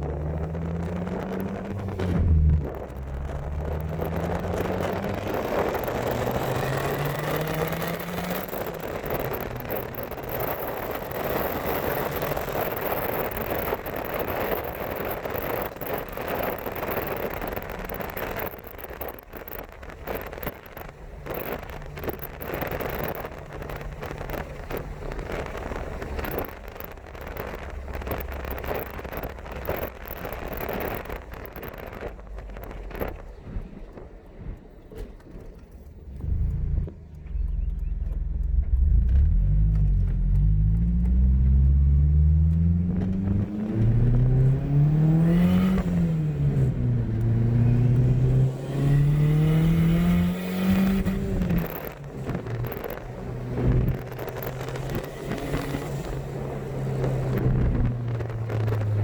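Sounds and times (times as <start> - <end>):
pickup engine accelerating: 0.0 - 59.0
road and wind noise: 0.0 - 59.0.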